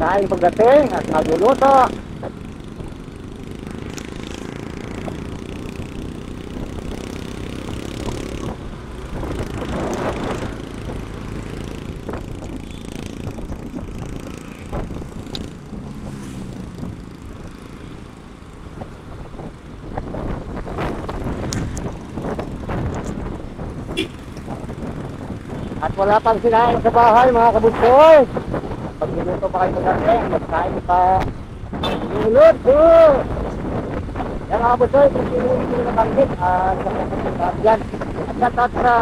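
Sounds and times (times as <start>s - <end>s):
motorcycle engine rumble: 0.0s - 39.0s
road noise: 0.0s - 39.0s.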